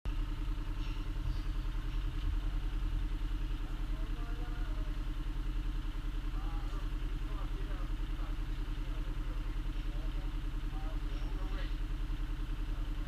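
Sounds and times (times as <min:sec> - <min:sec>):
excavator diesel engine pulsing: 0:00.1 - 0:13.0.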